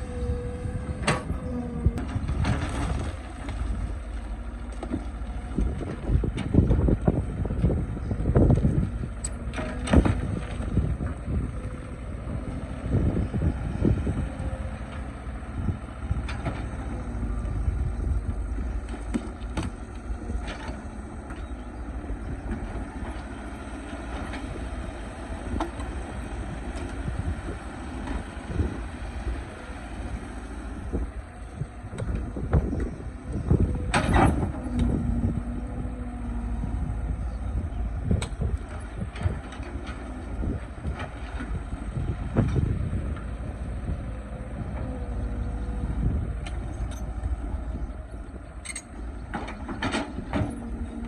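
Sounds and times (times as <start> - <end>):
excavator engine running: 0.0 - 51.0.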